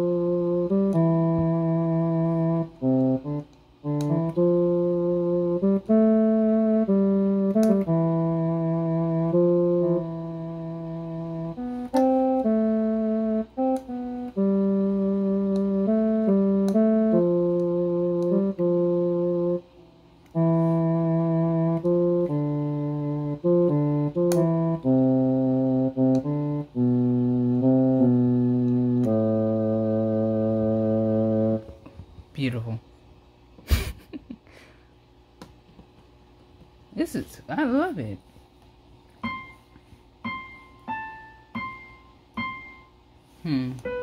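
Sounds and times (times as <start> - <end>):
digital keyboard held notes and chords: 0.0 - 31.8, 39.2 - 43.0, 43.8 - 44.0.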